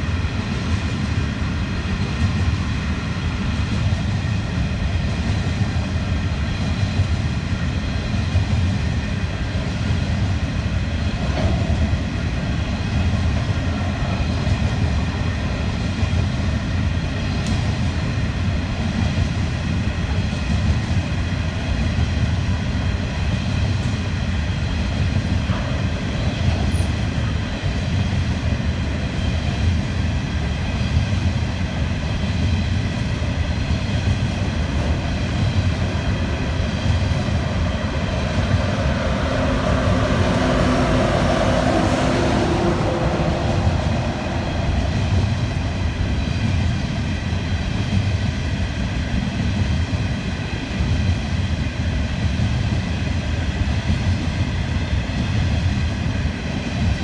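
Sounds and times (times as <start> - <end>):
diesel locomotive engine hum: 0.0 - 57.0.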